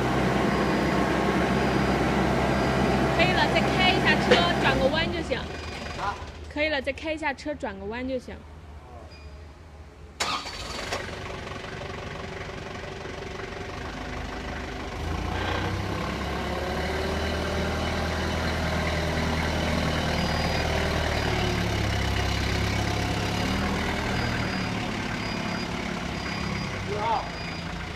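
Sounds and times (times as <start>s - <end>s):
diesel forklift engine running: 0.0s - 6.5s, 10.2s - 27.9s.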